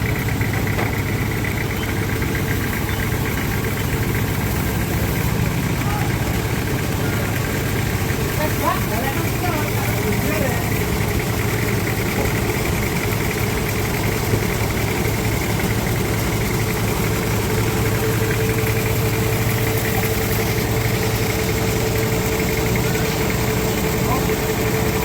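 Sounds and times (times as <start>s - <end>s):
sawmill engine drone: 0.0s - 25.0s.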